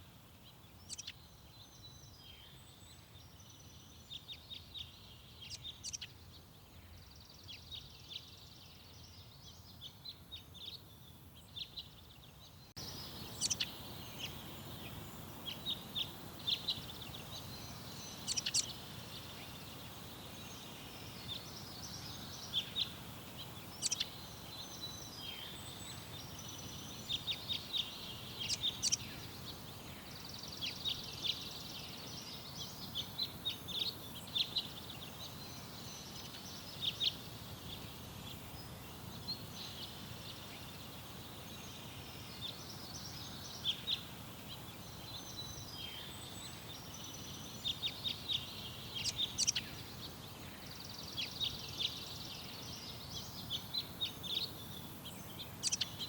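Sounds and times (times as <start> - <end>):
garden birds singing: 0.0 - 56.0
low background noise: 0.0 - 56.0.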